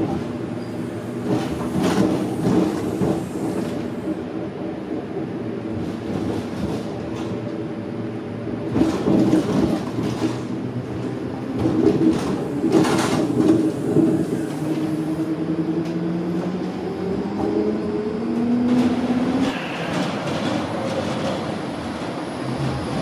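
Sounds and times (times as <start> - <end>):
tram electric hum: 0.0 - 23.0
wheels rumbling on rail: 0.0 - 23.0.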